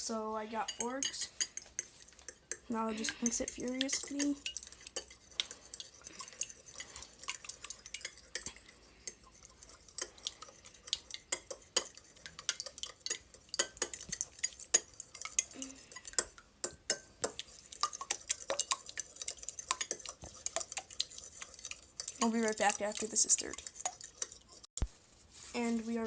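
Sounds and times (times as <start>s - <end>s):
fork whisking eggs in a bowl: 0.0s - 24.8s.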